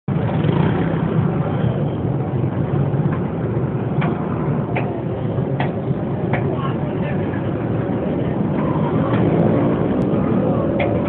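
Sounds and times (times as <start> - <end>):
street traffic rumble: 0.1 - 11.0.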